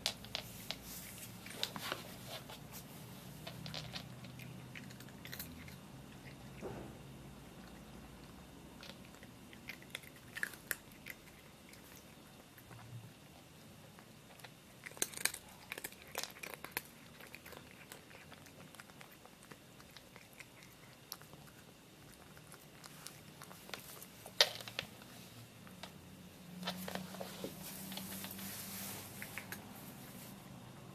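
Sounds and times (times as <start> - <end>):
cat crunching dry treats: 0.0 - 6.6, 7.6 - 29.9.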